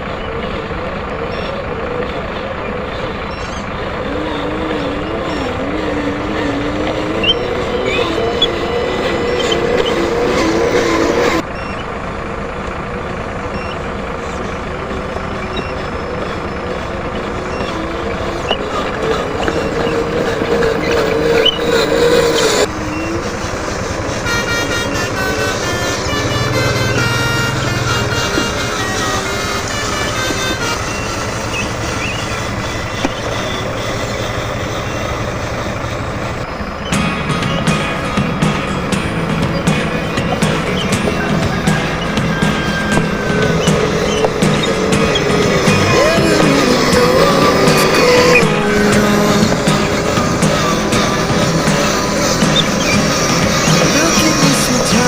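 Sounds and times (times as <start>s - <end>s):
truck engine running: 0.0s - 55.0s
wavering hum: 0.0s - 55.0s.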